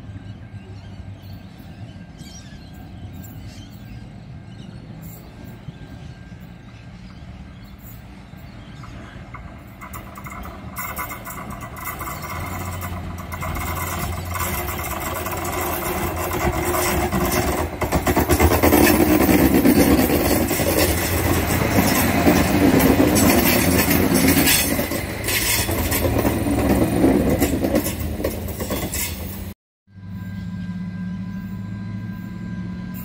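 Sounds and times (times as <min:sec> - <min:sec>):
train wheels rushing on rail: 0:00.0 - 0:29.6
diesel railcar engine hum: 0:00.0 - 0:33.0.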